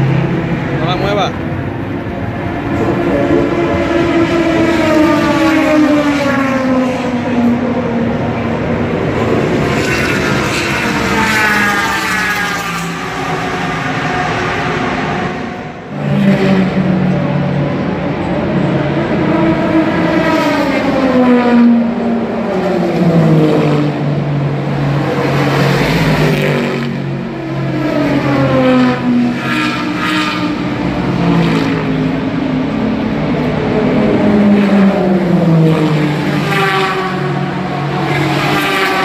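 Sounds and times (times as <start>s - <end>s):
race cars passing: 0.0s - 39.0s.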